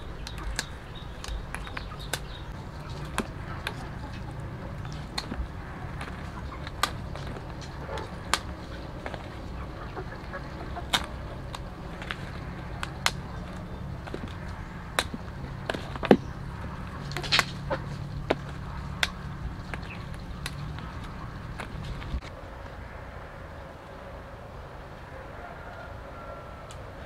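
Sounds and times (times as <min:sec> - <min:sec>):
pineapple pieces snapping: 0:00.0 - 0:22.3
steady low hum: 0:00.0 - 0:27.0.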